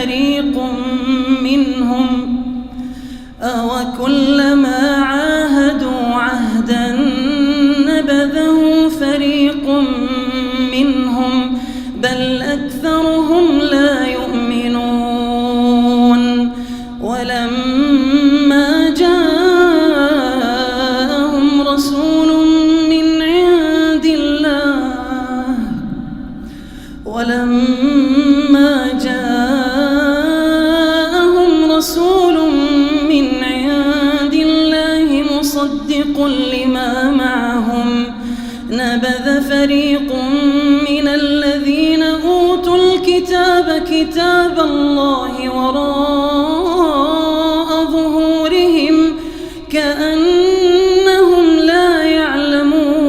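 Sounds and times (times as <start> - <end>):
man chanting: 0.0 - 2.7, 3.4 - 53.0
man reciting melodically: 0.0 - 2.7, 3.3 - 53.0.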